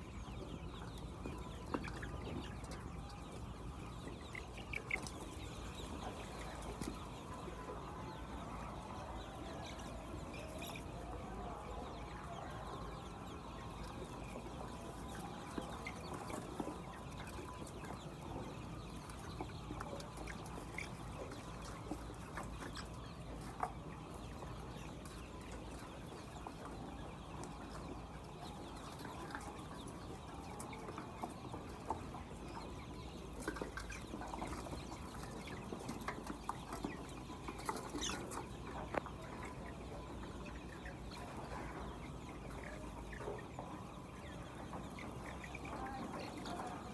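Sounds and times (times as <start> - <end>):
hens clucking: 0.0 - 46.9.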